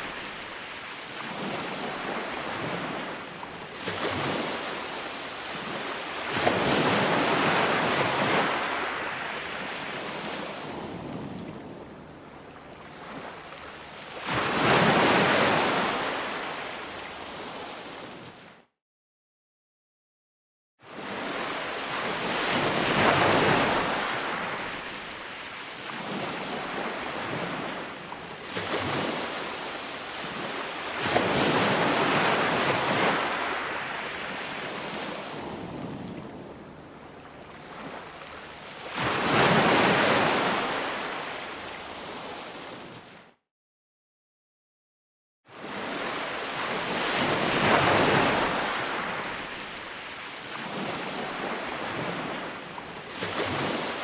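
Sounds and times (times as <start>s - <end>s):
ocean waves breaking on shore: 0.0s - 18.7s, 20.8s - 43.4s, 45.5s - 54.0s.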